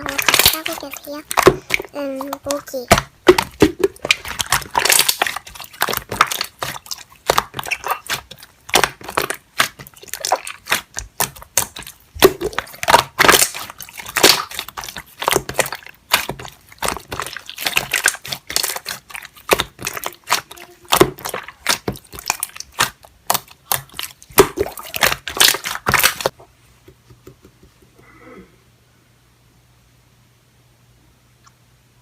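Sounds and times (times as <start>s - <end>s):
slime squelching: 0.0s - 26.5s.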